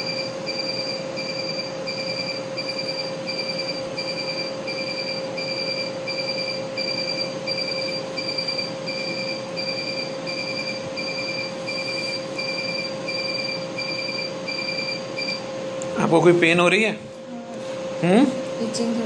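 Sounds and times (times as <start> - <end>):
machine hum and hiss: 0.0 - 19.0.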